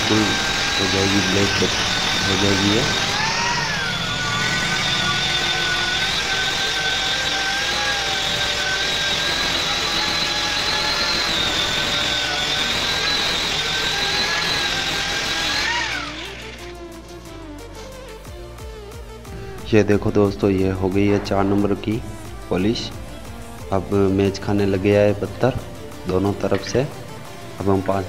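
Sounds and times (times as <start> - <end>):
angle grinder whining on stone: 0.0 - 28.0.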